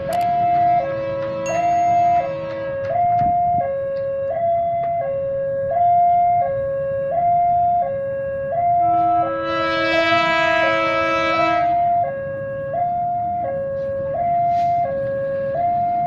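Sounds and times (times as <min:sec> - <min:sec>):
level-crossing two-tone alarm: 0:00.0 - 0:16.0.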